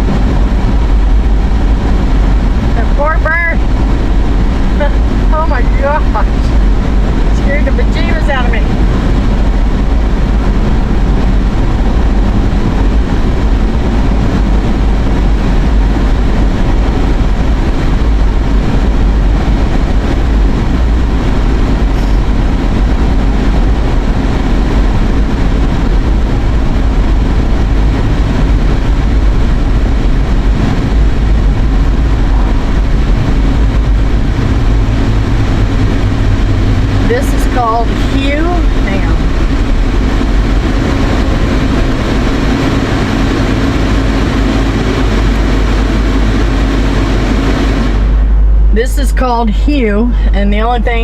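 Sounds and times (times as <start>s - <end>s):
car interior road noise: 0.0s - 51.0s.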